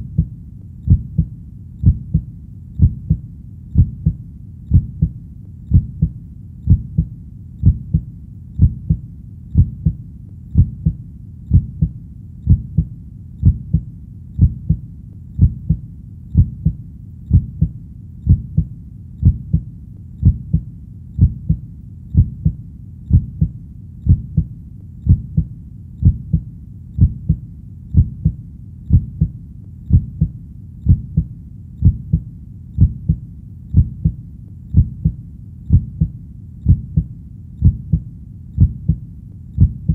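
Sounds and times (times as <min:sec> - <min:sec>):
heartbeat thumping: 0:00.0 - 0:39.9.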